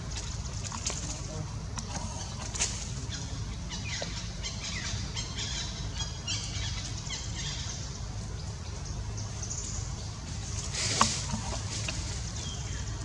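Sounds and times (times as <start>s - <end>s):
birds chirping: 0.3s - 13.0s.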